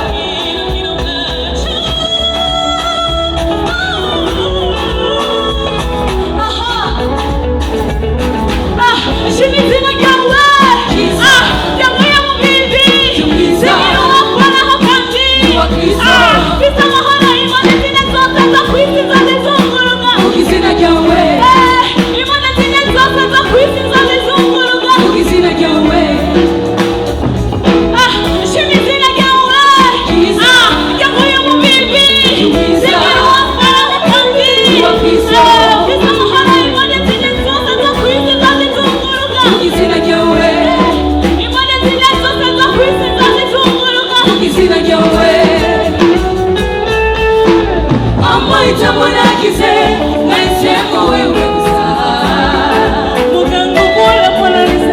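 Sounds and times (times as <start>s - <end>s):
woman singing: 0.0s - 8.0s, 8.6s - 27.0s, 27.6s - 46.8s, 47.5s - 54.9s
gospel backing music: 0.0s - 54.9s.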